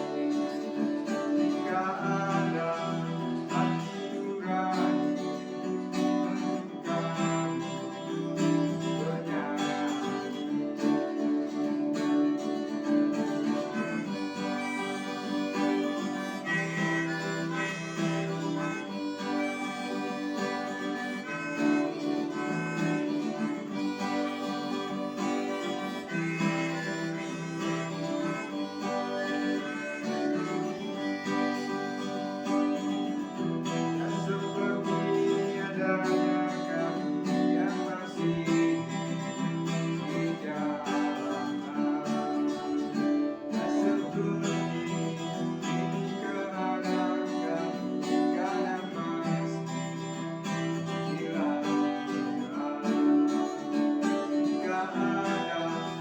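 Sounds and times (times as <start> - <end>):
acoustic guitar strumming: 0.0 - 56.0
harmonica melody: 0.0 - 56.0.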